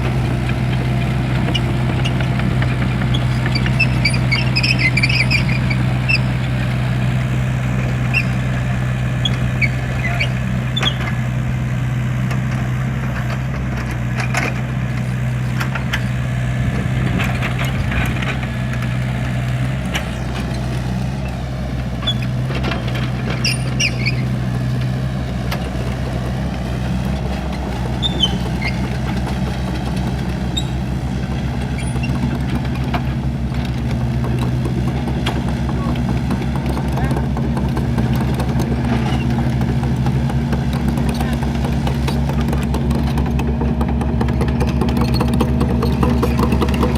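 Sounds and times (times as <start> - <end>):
vehicle engine idling: 0.0 - 46.9.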